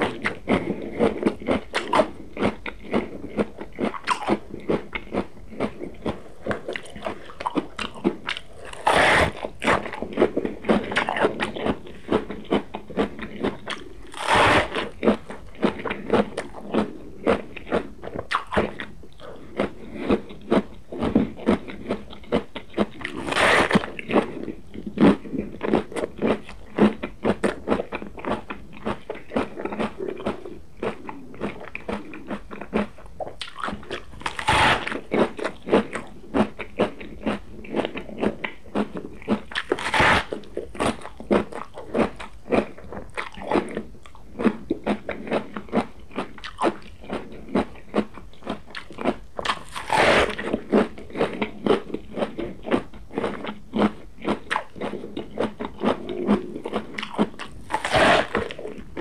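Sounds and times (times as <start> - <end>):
crisp bites and crunchy chewing: 0.0 - 59.0.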